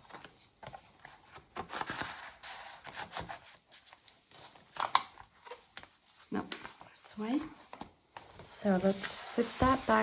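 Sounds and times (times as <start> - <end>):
paper rustling and rubbing: 0.0 - 10.0.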